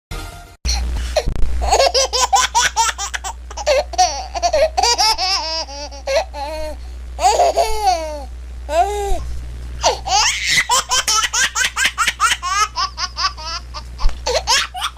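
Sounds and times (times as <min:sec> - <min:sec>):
steady low hum: 0:00.7 - 0:14.9
baby laughing: 0:01.6 - 0:08.9, 0:09.8 - 0:14.9.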